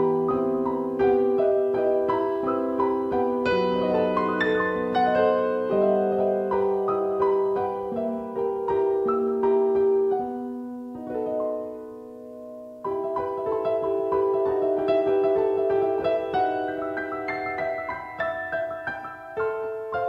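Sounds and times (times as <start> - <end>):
solo piano piece: 0.0 - 20.0.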